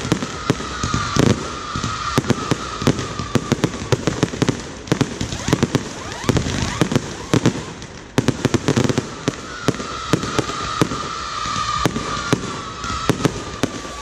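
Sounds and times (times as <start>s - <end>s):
fireworks bangs and pops: 0.0s - 14.0s
fireworks whistling: 0.0s - 14.0s.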